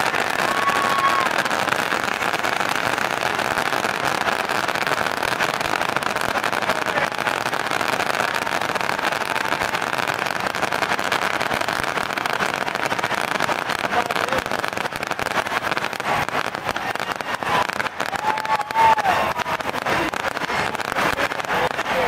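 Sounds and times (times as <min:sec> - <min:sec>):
crowd noise: 0:00.0 - 0:22.0
firework whistle: 0:00.0 - 0:22.0
fireworks crackling and popping: 0:00.0 - 0:22.0.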